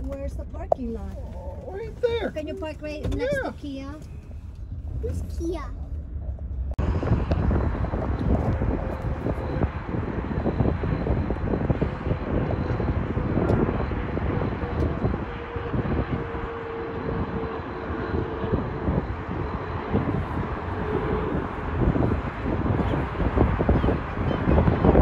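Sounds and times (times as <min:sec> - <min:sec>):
jet engine hum with whine: 0:00.0 - 0:25.0
wind buffeting microphone: 0:00.0 - 0:25.0.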